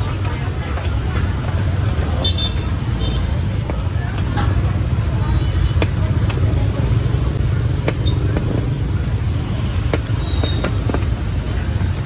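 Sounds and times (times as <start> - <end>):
low rumble of motor traffic: 0.0 - 12.0.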